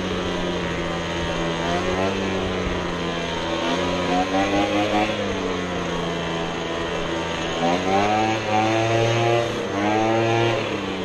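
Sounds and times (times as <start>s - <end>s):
small gas engine running: 0.0s - 11.0s.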